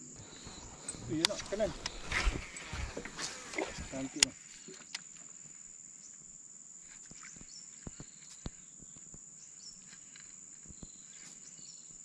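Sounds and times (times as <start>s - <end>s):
high-pitched insect drone: 0.0s - 11.9s.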